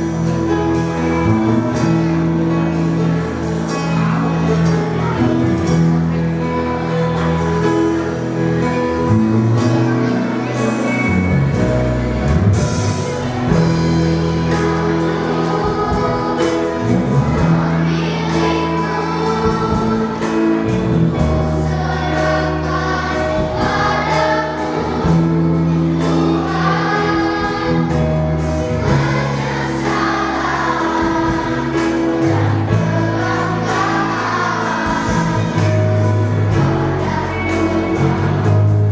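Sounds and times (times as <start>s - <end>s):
children's choir singing a hymn: 0.0s - 38.9s
instrumental accompaniment: 0.0s - 38.9s.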